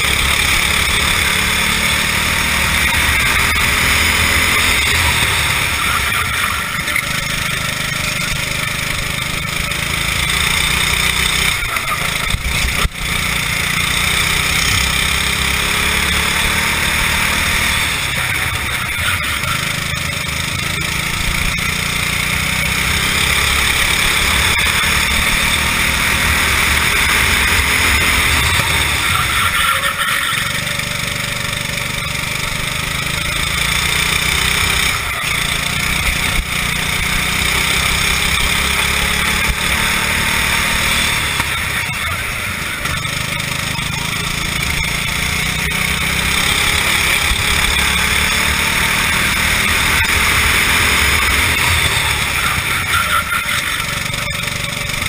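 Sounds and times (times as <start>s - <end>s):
racing kart engine: 0.0s - 55.0s.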